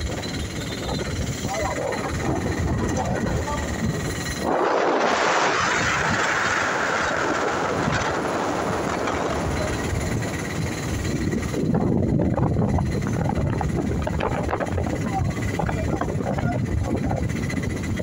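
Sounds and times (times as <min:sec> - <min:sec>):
auto-rickshaw engine: 0:00.0 - 0:18.0
deep rumble: 0:00.0 - 0:18.0.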